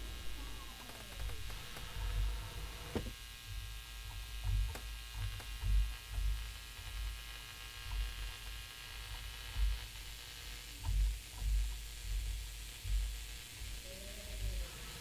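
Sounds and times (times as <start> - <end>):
electrical hum and buzz: 0.0 - 15.0.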